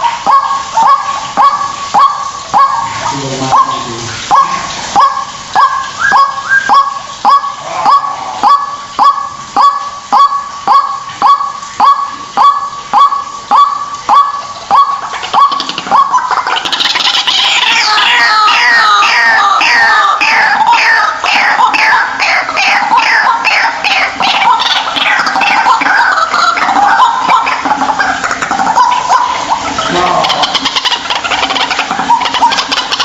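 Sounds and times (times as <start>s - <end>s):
waterhen calling: 0.0s - 33.0s.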